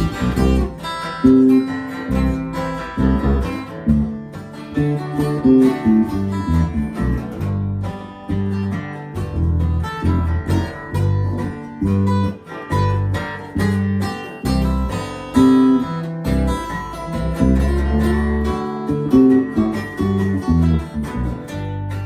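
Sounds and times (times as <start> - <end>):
acoustic guitars strumming: 0.0 - 22.0
low bass notes: 0.0 - 22.0.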